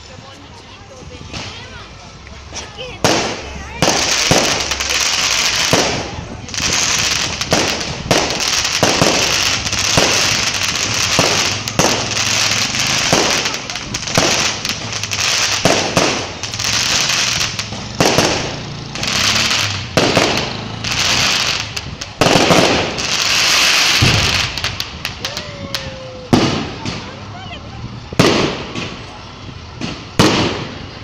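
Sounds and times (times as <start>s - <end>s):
fireworks crackling hiss: 0.0s - 31.0s
fireworks bangs: 2.7s - 27.3s, 28.1s - 31.0s.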